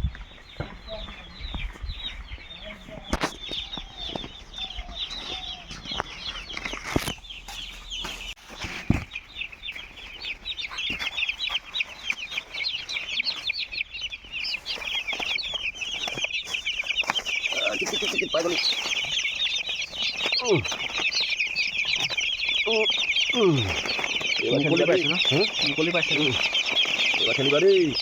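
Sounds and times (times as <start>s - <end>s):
chicks peeping: 0.0s - 28.0s.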